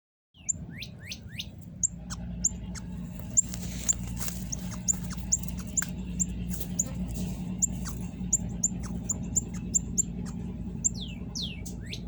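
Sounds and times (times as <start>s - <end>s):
bird chip calls: 0.4s - 12.0s
steady low hum: 0.4s - 12.0s.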